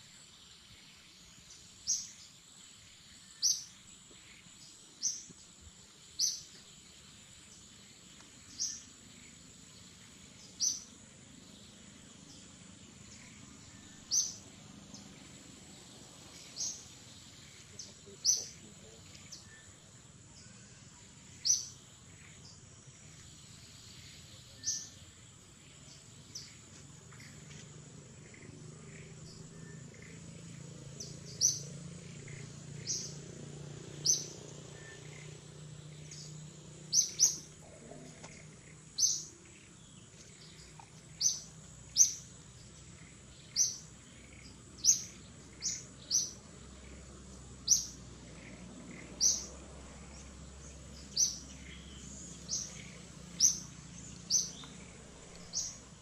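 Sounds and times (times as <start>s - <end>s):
bird chirping: 0.0s - 56.0s
faint low drone: 0.0s - 56.0s
high insect whine: 0.0s - 56.0s.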